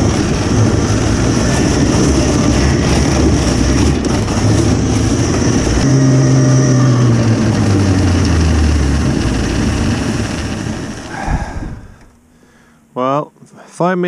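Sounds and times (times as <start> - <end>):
snowmobile track noise: 0.0 - 12.0
wind on microphone: 0.0 - 12.0
electric motor whine: 0.0 - 12.2.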